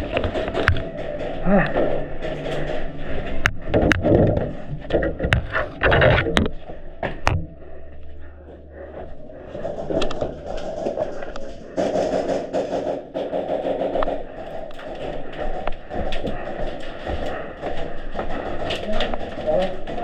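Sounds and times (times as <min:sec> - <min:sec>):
low hum: 0:00.0 - 0:20.0
scuffing and clattering: 0:00.0 - 0:20.0.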